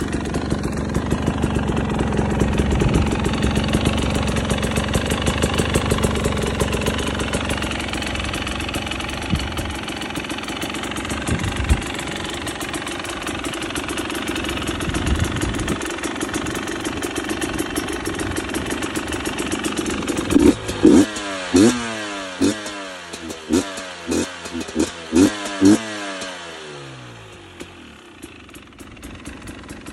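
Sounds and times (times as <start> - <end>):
engine revving: 0.0 - 15.8, 17.4 - 27.8
motorcycle engine idling: 0.0 - 29.9.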